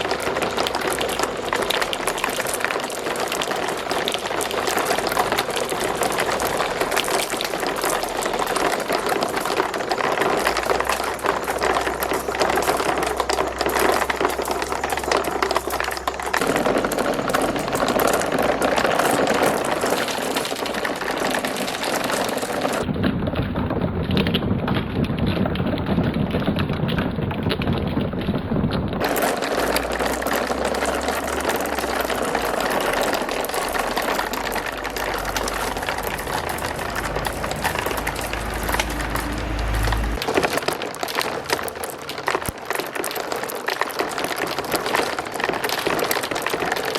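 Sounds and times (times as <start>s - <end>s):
marbles rattling down a track: 0.0s - 28.2s, 29.0s - 46.9s.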